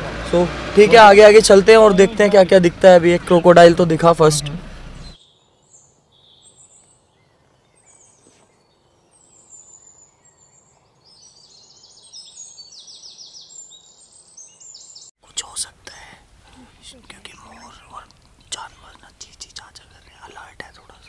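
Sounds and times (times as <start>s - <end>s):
birds chirping and trilling: 0.3s - 16.0s, 16.6s - 21.0s
faint background hiss: 0.9s - 21.0s.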